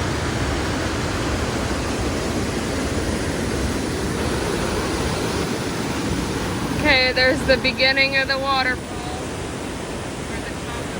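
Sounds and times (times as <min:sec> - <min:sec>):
waterfall and creek rushing: 0:00.0 - 0:10.9.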